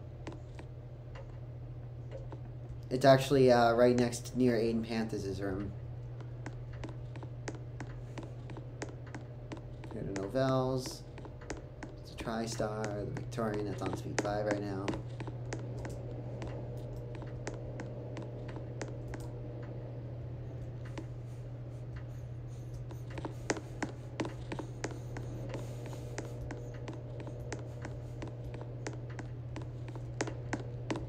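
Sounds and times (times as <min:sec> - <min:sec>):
ceiling fan motor hum: 0:00.0 - 0:31.0
light clicks and scratches: 0:02.1 - 0:19.8, 0:20.8 - 0:31.0.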